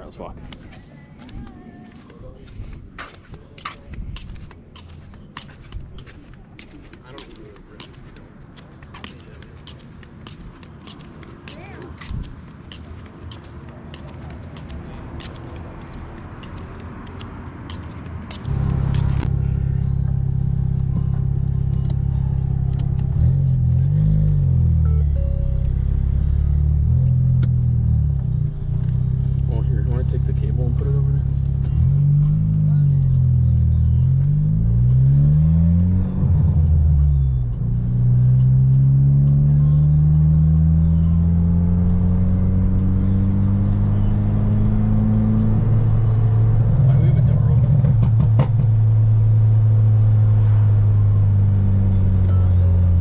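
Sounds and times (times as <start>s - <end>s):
car engine humming: 0.2s - 53.0s.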